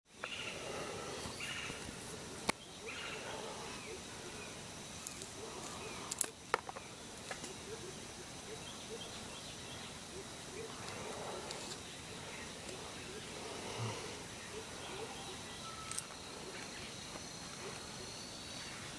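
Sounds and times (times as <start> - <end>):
faint bird chirps: 0.1 - 1.9, 2.6 - 18.9.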